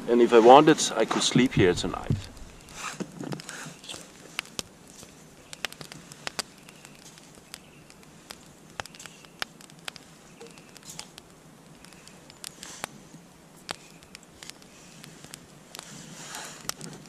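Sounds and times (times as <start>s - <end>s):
wood fire crackling and popping: 0.9s - 17.0s.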